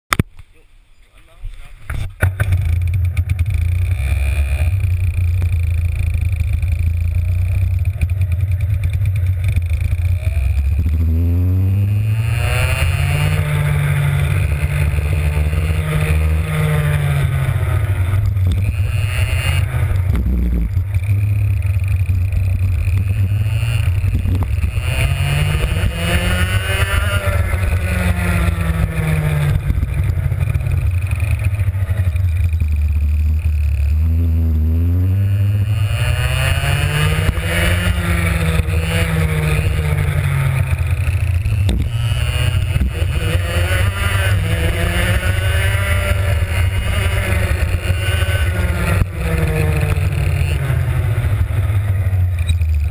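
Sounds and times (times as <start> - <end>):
two-stroke kart engine revving: 1.8 - 52.9.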